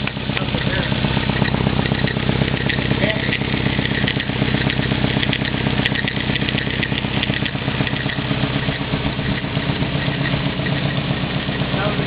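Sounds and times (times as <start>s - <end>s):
car engine idling: 0.0s - 12.0s
irregular engine ticking: 0.0s - 12.0s.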